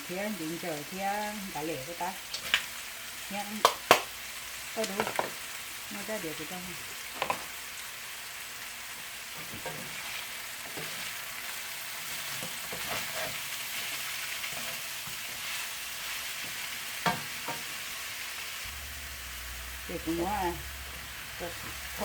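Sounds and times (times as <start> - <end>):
chicken wings sizzling in pan: 0.0 - 22.0.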